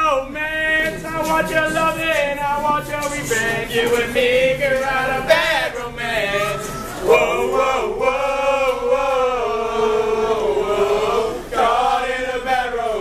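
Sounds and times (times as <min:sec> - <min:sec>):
male a cappella group singing: 0:00.0 - 0:13.0.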